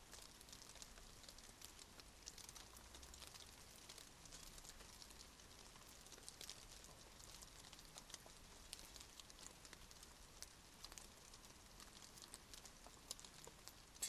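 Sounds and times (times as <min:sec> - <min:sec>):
raindrops ticking: 0:00.0 - 0:14.0
soft rain hiss: 0:00.0 - 0:14.0.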